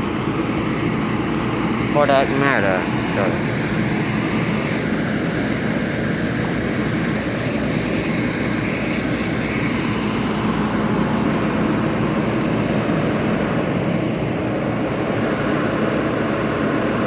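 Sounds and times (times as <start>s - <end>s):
bus engines idling: 0.0s - 17.0s.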